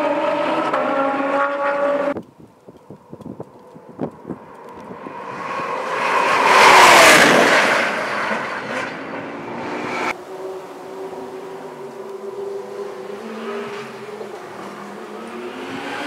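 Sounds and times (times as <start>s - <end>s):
race car passing at speed: 0.0s - 2.2s, 4.4s - 16.0s.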